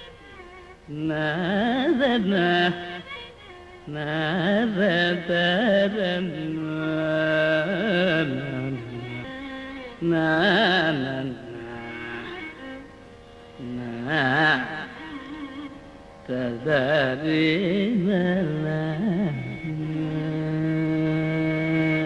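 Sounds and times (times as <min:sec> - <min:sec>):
person singing ornamented phrases: 0:00.8 - 0:12.6, 0:13.6 - 0:22.0.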